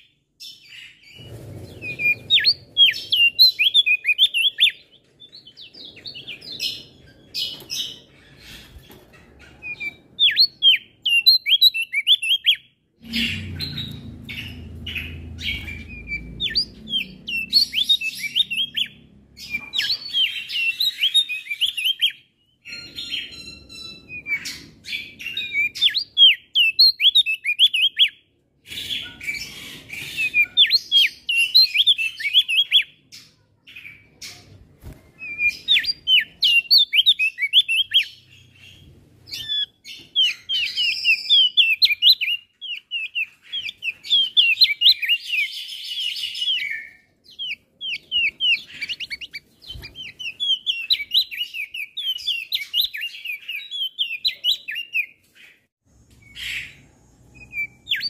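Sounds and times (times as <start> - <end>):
songbird chirping and twittering: 0.0 - 58.0.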